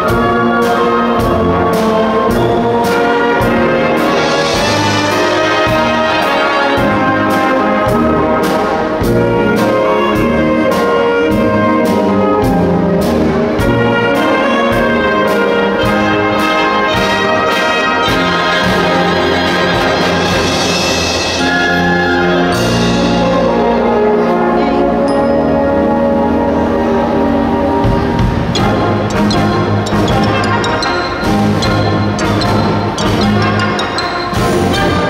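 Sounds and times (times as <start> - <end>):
steady drum beat: 0.0 - 24.0, 27.8 - 35.0
wind band playing: 0.0 - 35.0.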